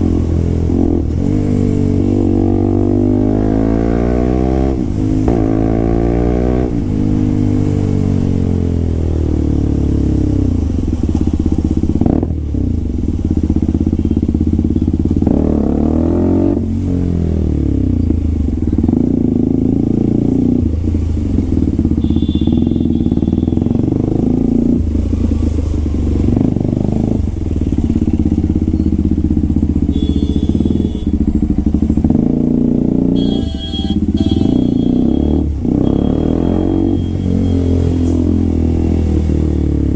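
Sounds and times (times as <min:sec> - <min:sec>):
motorcycle accelerating: 0:00.0 - 0:39.9.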